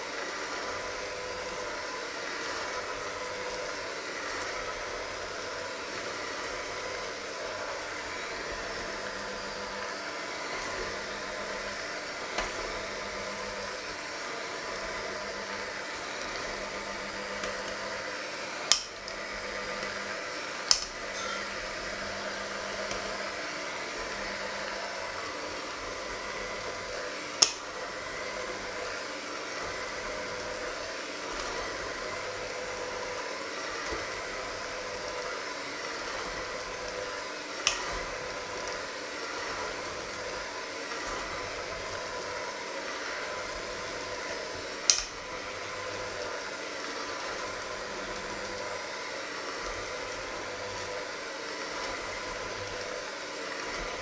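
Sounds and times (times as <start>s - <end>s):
electric hand mixer running: 0.0s - 54.0s.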